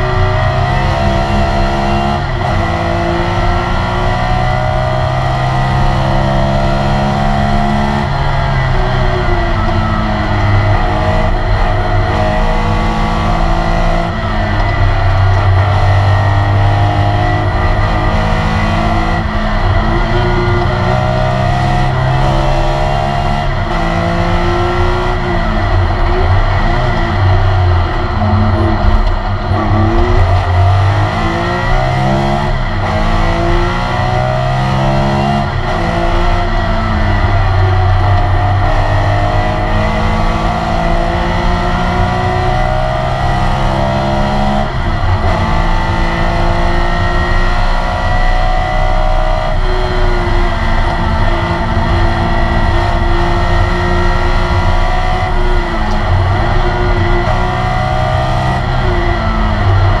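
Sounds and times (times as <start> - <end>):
racing engine revving: 0.0 - 60.0.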